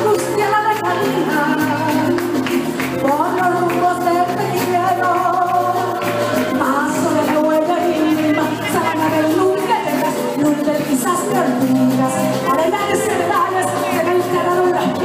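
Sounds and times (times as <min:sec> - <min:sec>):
keyboard and strings accompaniment: 0:00.0 - 0:15.0
woman singing: 0:00.0 - 0:15.0.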